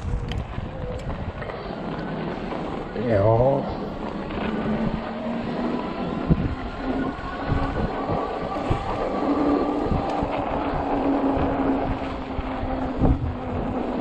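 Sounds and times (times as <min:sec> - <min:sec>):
electric motor whine: 0:00.0 - 0:14.0
tyres rolling on snow: 0:00.0 - 0:14.0.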